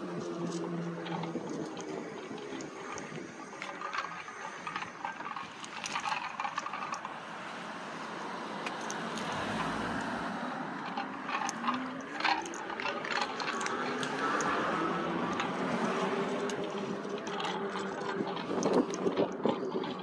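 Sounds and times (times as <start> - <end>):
wind and road noise: 0.0 - 20.0
light rattling clicks: 0.2 - 7.2, 8.6 - 20.0.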